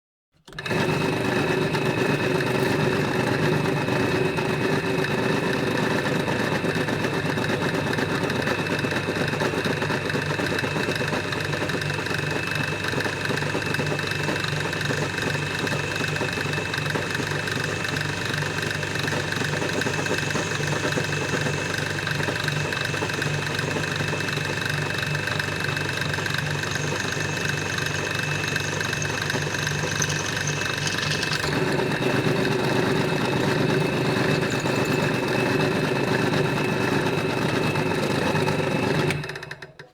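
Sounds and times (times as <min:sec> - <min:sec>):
drill motor hum: 0:00.5 - 0:39.6.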